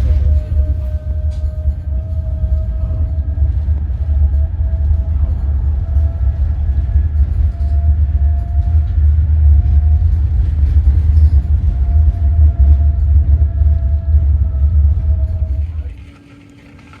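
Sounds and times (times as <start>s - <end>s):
electric train rumbling: 0.0s - 17.0s
train motor whine: 0.0s - 17.0s.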